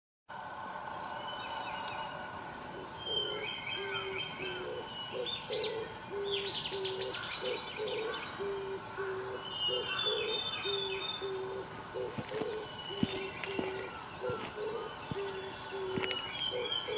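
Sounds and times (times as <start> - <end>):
bird hooting low notes: 0.4 - 16.9
songbirds chirping and trilling: 0.4 - 16.9.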